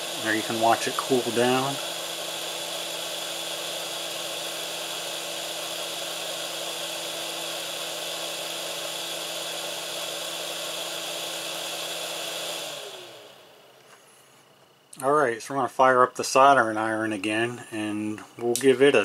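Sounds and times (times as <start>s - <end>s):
hot air gun fan whirring: 0.0s - 19.0s.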